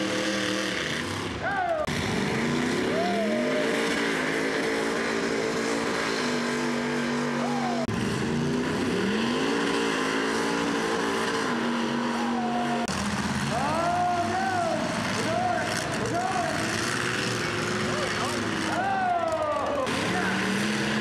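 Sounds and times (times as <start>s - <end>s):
pickup truck engines revving: 0.0s - 21.0s.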